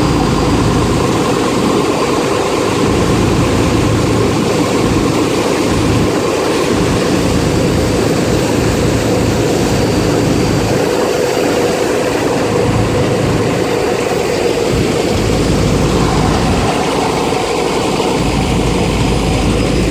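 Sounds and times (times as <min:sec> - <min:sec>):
ferry engine humming: 0:00.0 - 0:19.9.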